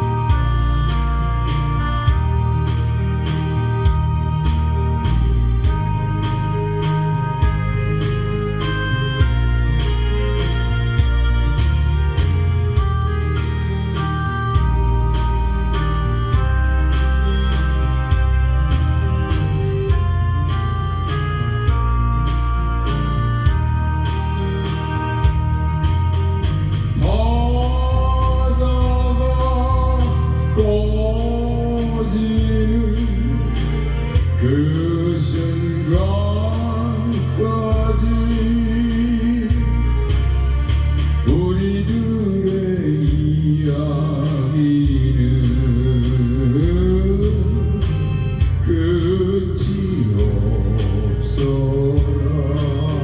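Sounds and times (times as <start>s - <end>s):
karaoke backing track: 0.0s - 53.0s
person singing a ballad: 0.0s - 53.0s.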